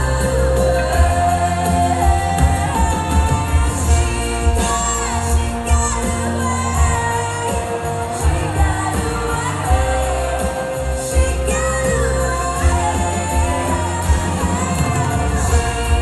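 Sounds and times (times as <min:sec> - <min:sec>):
amplified band: 0:00.0 - 0:16.0
heavy pulsing bass: 0:00.0 - 0:16.0
woman singing pop song: 0:00.0 - 0:16.0.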